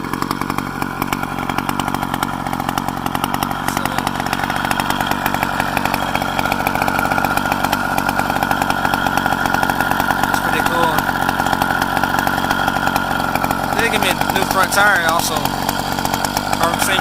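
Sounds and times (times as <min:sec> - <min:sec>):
two-stroke engine buzzing: 0:00.0 - 0:17.0.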